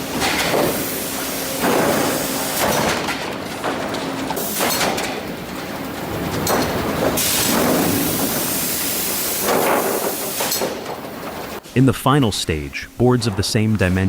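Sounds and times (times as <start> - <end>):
boards clattering and knocking: 0.0 - 11.6.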